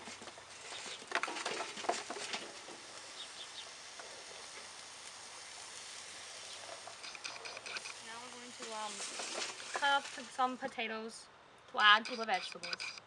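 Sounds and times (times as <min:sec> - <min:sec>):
charcoal briquettes clattering: 0:00.0 - 0:11.1
faint steady hiss: 0:00.0 - 0:13.0.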